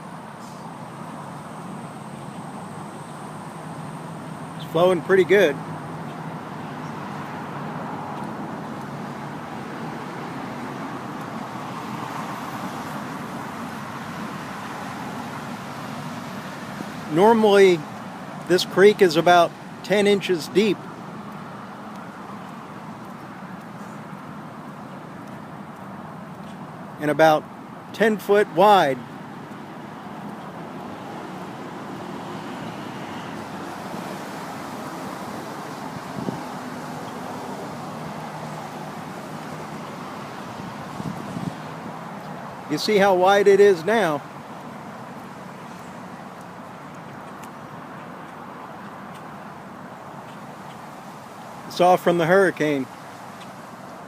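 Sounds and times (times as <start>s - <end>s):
flooded creek rushing: 0.0s - 54.0s.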